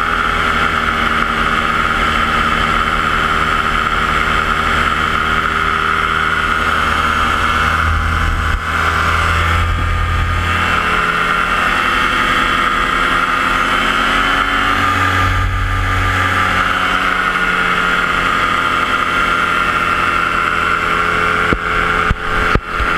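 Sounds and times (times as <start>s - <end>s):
paramotor engine droning: 0.0s - 22.9s.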